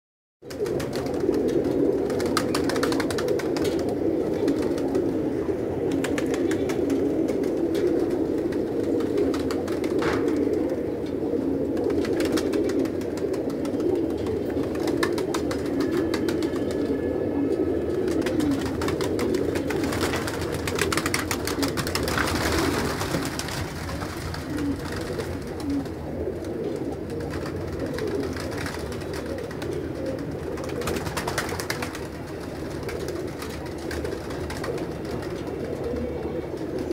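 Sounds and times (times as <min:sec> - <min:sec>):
pigeons cooing: 0:00.4 - 0:36.9
wings flapping: 0:00.4 - 0:36.9.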